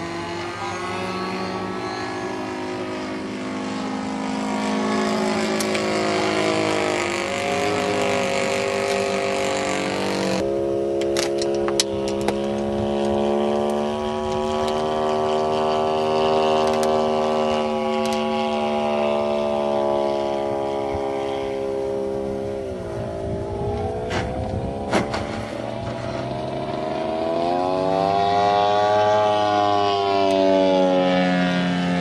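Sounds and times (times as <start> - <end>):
model airplane engine running: 0.0 - 32.0.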